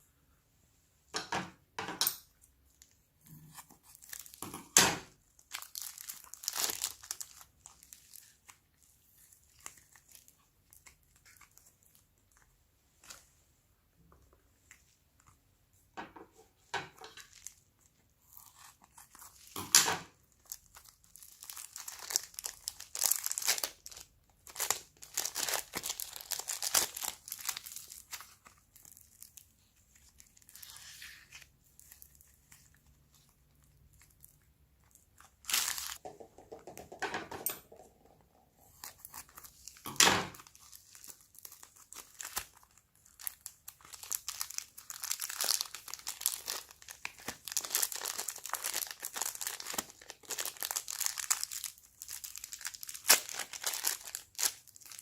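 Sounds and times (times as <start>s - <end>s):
slime squishing and crinkling: 2.6s - 13.3s, 16.4s - 36.0s, 38.4s - 55.0s.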